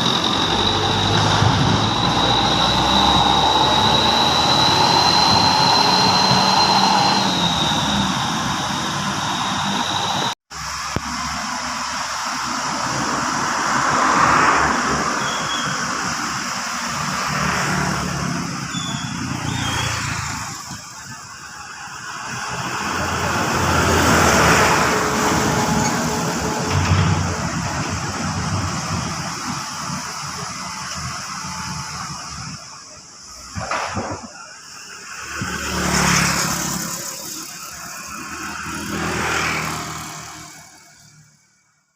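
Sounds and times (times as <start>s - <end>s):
bulldozer diesel engine running: 0.0s - 41.2s.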